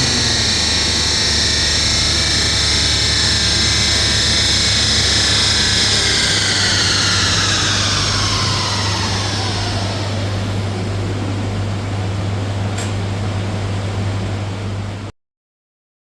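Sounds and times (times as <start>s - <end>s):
diesel engine running down: 0.0s - 15.1s.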